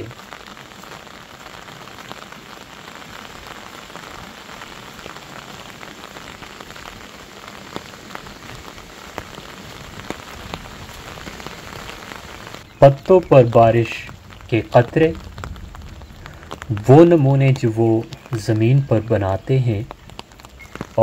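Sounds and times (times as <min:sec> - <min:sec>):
rain falling on grass: 0:00.0 - 0:21.0.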